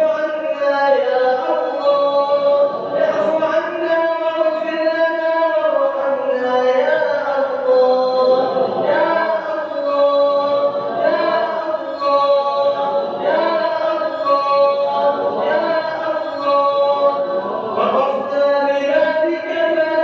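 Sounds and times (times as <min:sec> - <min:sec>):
person chanting a prayer: 0:00.0 - 0:20.0.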